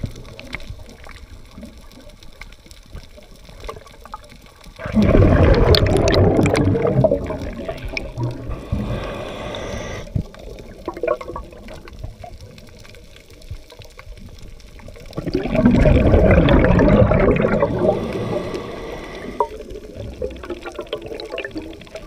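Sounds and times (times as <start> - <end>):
underwater bubbles gurgling: 0.0 - 22.0.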